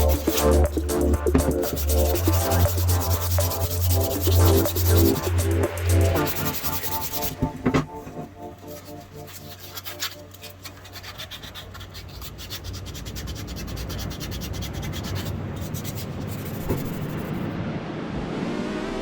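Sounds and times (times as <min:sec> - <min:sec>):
scraping and rubbing strokes: 0:00.0 - 0:17.5.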